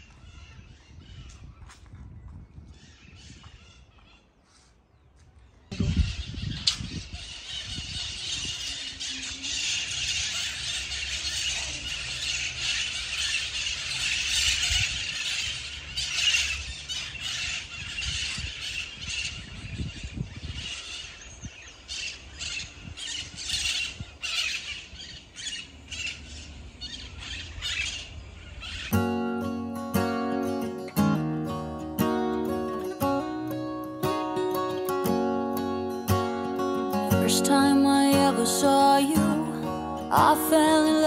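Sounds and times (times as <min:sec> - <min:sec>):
birds squawking and chirping: 0:00.0 - 0:04.8, 0:05.5 - 0:41.0.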